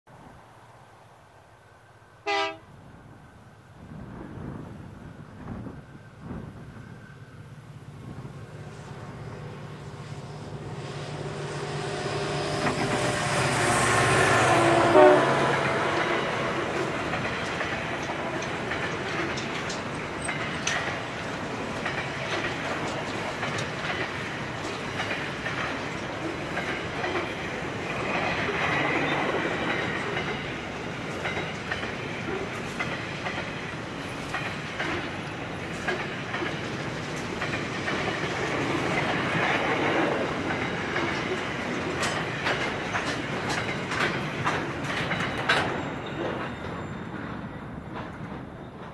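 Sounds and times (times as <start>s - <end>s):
train wheels clattering on track: 5.4s - 48.9s.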